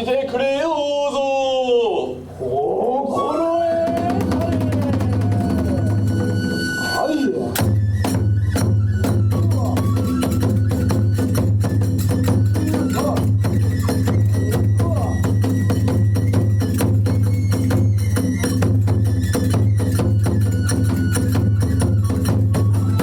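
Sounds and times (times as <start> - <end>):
thin flute line: 3.1 - 23.0
fast drumming: 3.8 - 23.0.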